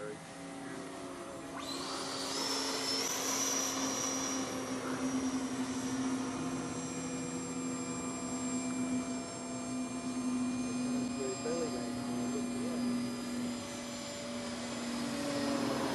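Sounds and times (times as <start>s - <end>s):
electric ducted fan whine: 0.0s - 15.9s
low hum: 0.0s - 15.9s.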